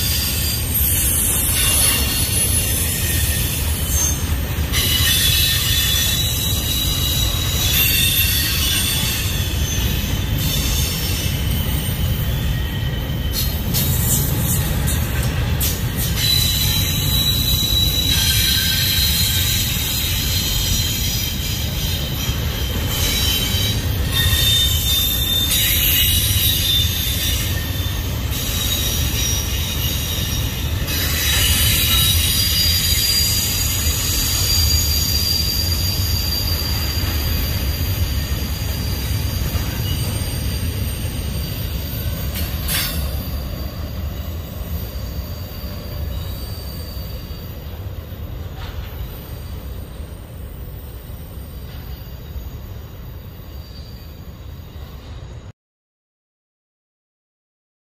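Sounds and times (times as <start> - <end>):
high-pitched wheel squeal: 0.0 - 55.2
steel wheels rumbling on rail: 0.0 - 55.5.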